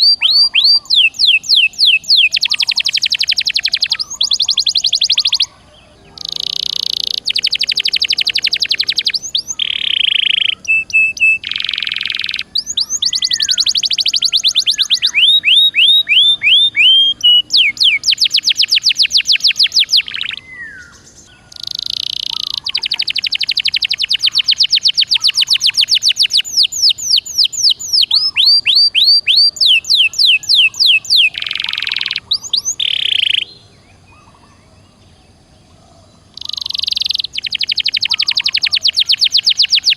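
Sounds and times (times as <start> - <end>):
canary singing: 0.0 - 35.1, 36.2 - 39.9.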